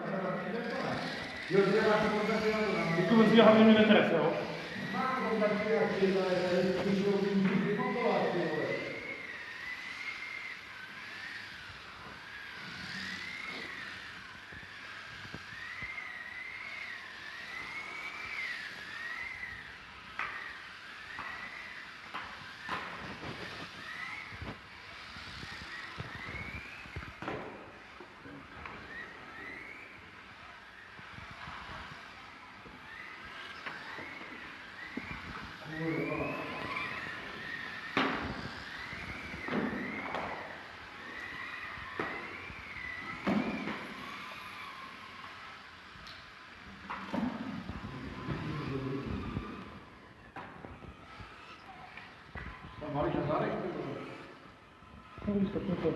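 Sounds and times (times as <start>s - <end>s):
small electric motor whining: 0.0s - 55.9s.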